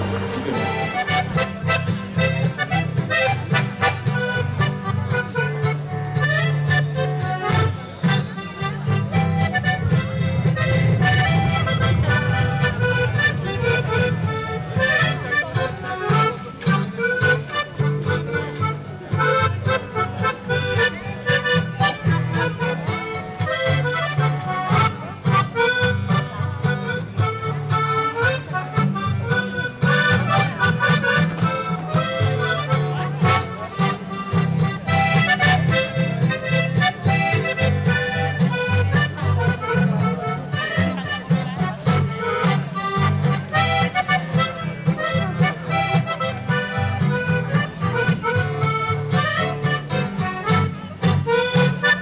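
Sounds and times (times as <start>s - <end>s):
folk dance music over sound system: 0.0s - 52.0s.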